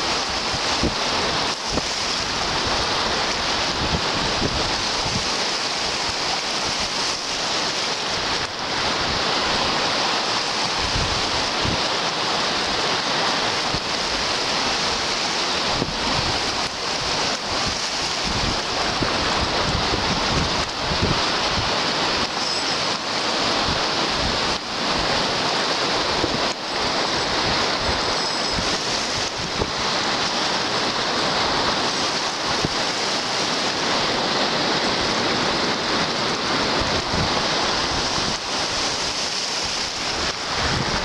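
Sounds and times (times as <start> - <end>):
lake waves washing: 0.0 - 41.0
wind rumbling on microphone: 0.0 - 41.0.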